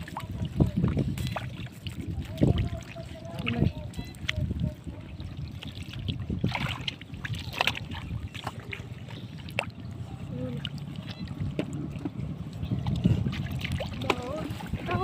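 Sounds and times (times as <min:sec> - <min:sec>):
hands splashing in muddy water: 0:00.0 - 0:04.6, 0:05.2 - 0:09.9, 0:10.5 - 0:15.0
wind rumble on microphone: 0:00.0 - 0:15.0.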